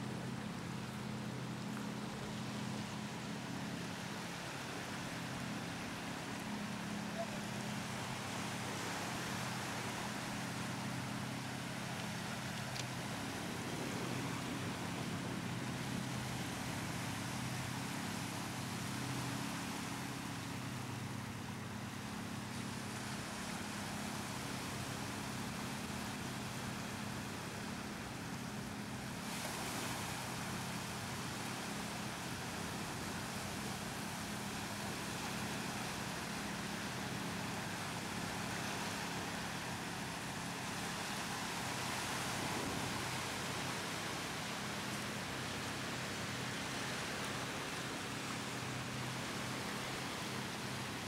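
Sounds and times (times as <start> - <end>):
choppy lake water: 0.0 - 51.0
low motor hum: 0.0 - 51.0
wind: 0.0 - 51.0.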